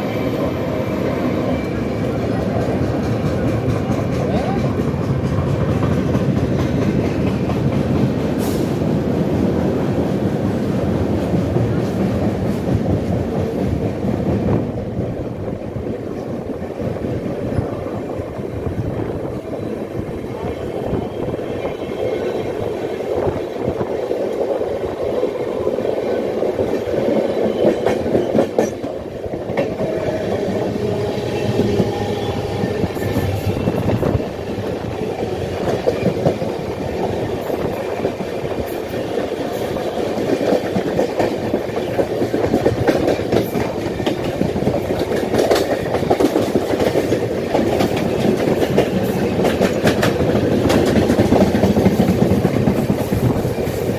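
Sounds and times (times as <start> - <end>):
train wheels rumbling on rails: 0.0 - 53.9
clickety-clack over rail joints: 1.3 - 19.5, 26.1 - 53.9.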